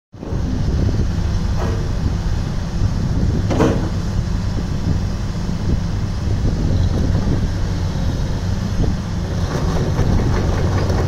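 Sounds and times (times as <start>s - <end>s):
diesel engine running: 0.2s - 11.0s.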